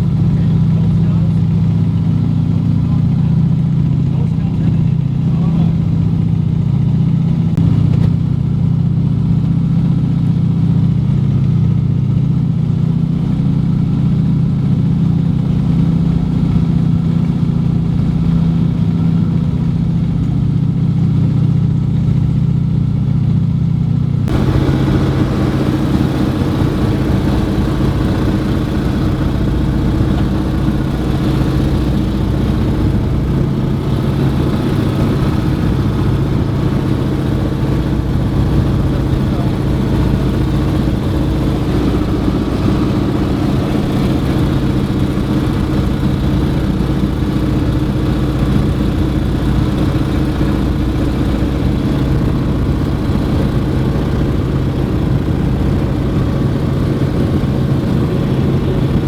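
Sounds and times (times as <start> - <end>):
aircraft radial engines droning: 0.0 - 59.0.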